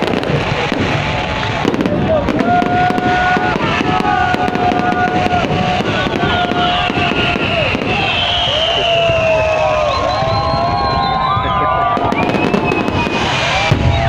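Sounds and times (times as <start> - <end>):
fireworks bursting and crackling: 0.0 - 14.0.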